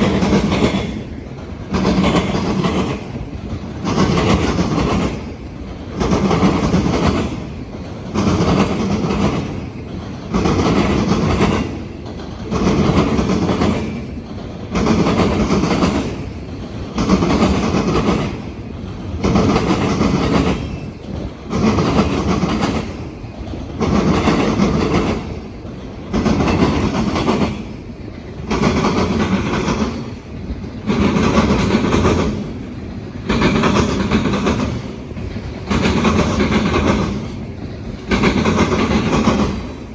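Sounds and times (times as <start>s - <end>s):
train wheels clattering over crossings: 0.0s - 39.9s.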